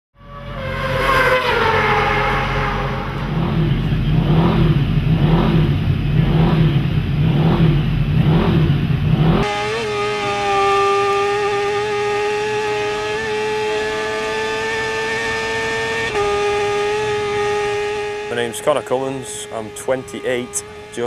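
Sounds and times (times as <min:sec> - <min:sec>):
motorcycle engine at high revs: 0:00.2 - 0:21.0
throbbing engine noise: 0:00.2 - 0:21.0.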